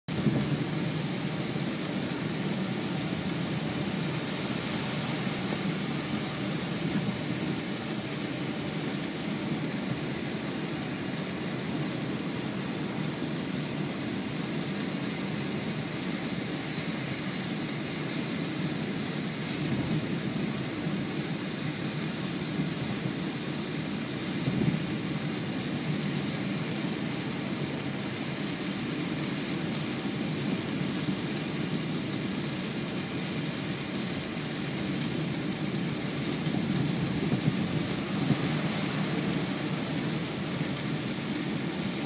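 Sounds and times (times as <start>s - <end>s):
heavy rain on a moving car: 0.1s - 42.0s
tyres on flooded road: 0.1s - 42.0s.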